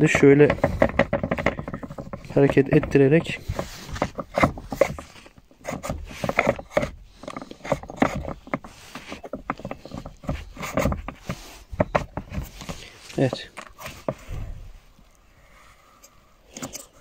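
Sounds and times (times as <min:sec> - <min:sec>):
armrest lid rubbing: 0:00.0 - 0:14.9
armrest lid knocks and clicks: 0:00.4 - 0:14.5.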